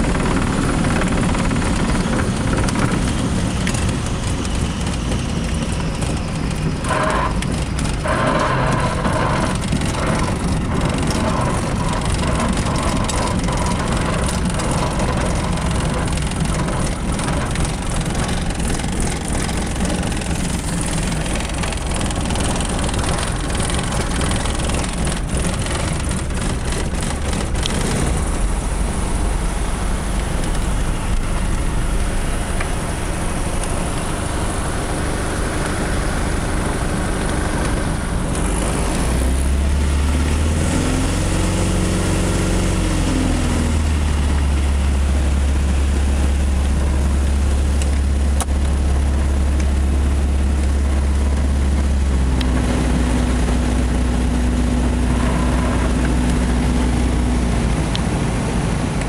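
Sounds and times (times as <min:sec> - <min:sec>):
deep drone: 0:00.0 - 0:59.0
small aircraft engine running: 0:00.0 - 0:59.0
wheels rolling on runway: 0:00.0 - 0:59.0.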